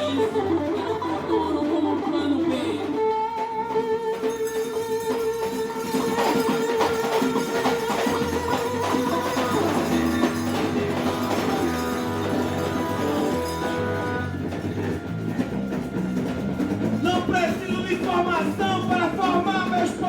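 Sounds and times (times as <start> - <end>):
electric guitar sustained notes: 0.0 - 20.0
hand percussion: 3.7 - 20.0.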